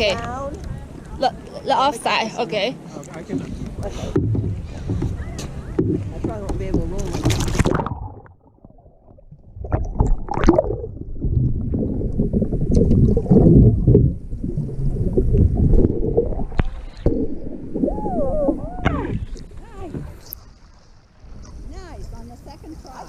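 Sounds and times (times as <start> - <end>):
water splashing around a kayak: 2.8 - 23.0.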